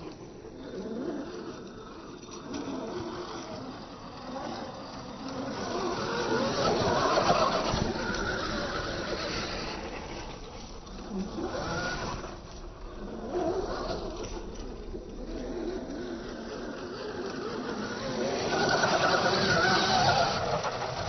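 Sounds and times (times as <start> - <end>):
electric motor whining: 0.0 - 21.0
tyres on rough ground: 0.0 - 21.0.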